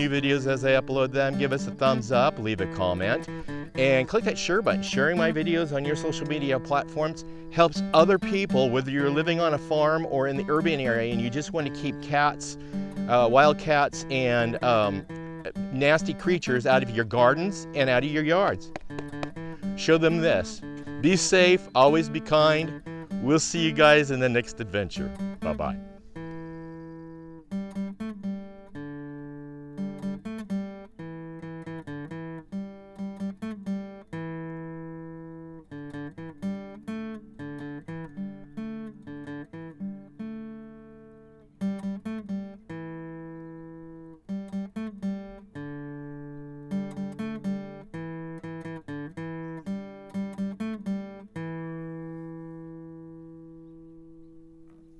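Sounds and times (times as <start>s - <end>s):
acoustic guitar playing: 0.0s - 54.9s.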